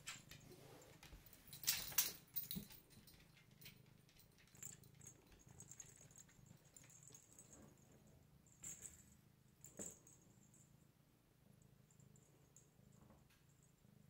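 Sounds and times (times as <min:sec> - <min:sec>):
faint high tinkling: 0:00.2 - 0:14.0.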